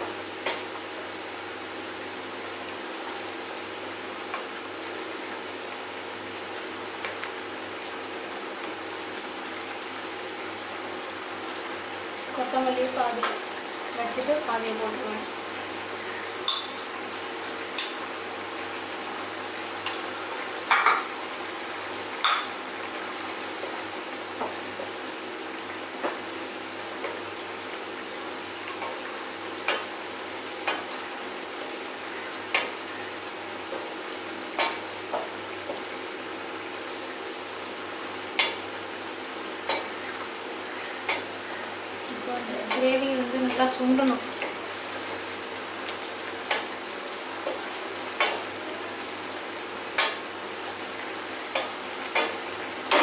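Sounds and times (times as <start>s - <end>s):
gravy sizzling in metal pan: 0.0s - 53.0s.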